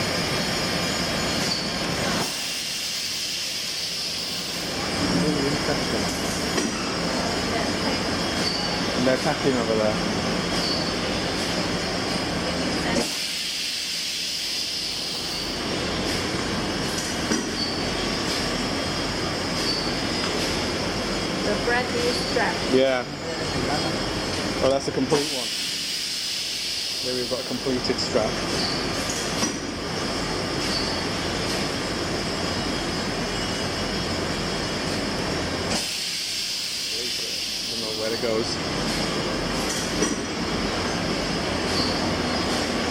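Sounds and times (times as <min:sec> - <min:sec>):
workshop machinery noise: 0:00.0 - 0:42.9.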